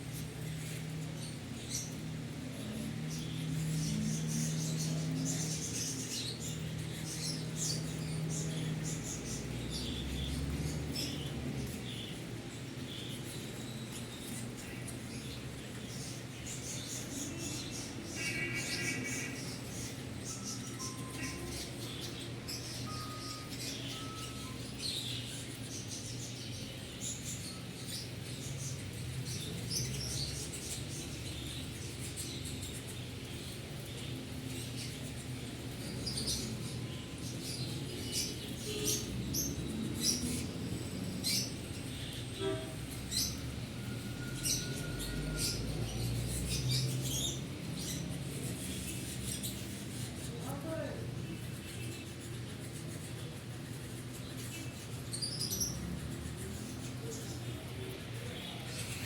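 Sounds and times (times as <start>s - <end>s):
canaries chirping: 0.0s - 59.0s.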